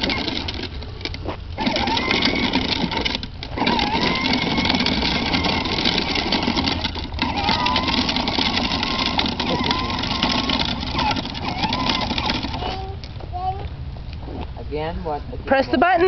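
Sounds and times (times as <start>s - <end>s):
electric motor whining: 0.0s - 13.1s
plastic wheels rumbling on asphalt: 0.0s - 13.7s.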